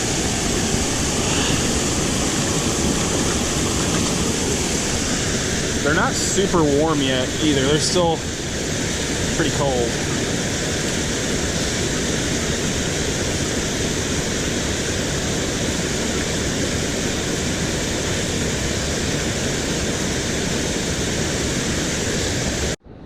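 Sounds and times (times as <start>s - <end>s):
water rushing over spillway: 0.0s - 22.8s.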